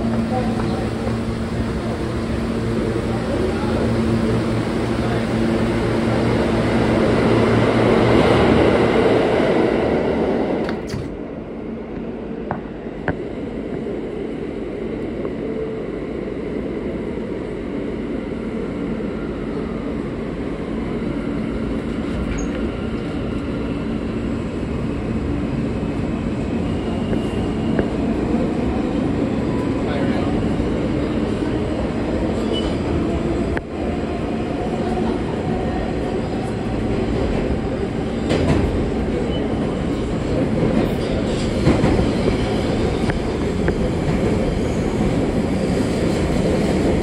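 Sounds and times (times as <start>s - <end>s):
subway wheels rumbling on track: 0.0s - 47.0s.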